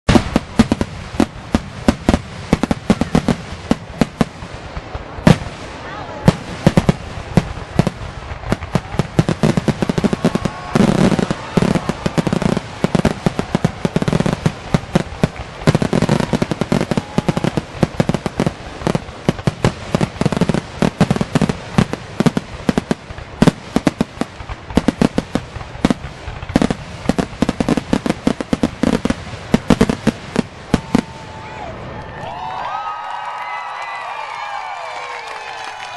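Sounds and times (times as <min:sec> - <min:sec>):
fireworks bangs: 0:00.0 - 0:35.9
deep fireworks booms: 0:00.1 - 0:32.6.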